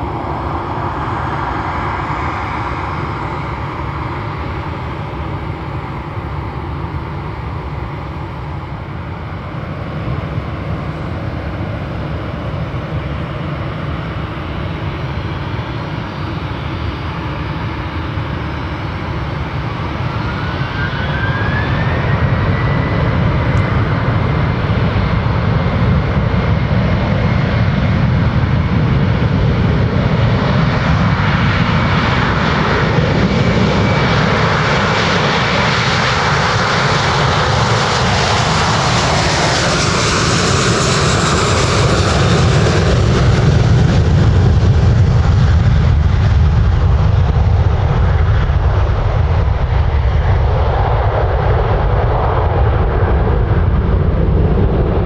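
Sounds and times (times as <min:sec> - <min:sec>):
high jet engine whine: 0:00.0 - 0:55.0
jet engine roar: 0:00.0 - 0:55.0.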